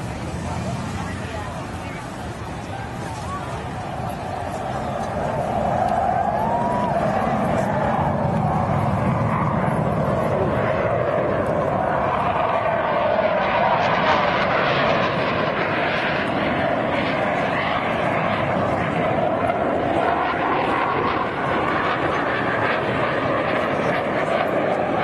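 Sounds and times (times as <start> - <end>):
jet engines roaring past: 0.0 - 25.0.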